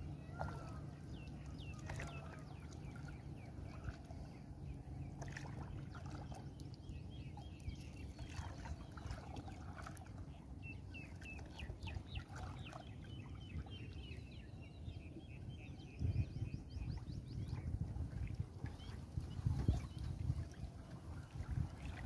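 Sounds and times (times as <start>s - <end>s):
birds chirping: 0.0s - 22.0s
water lapping against canoe: 0.0s - 22.0s.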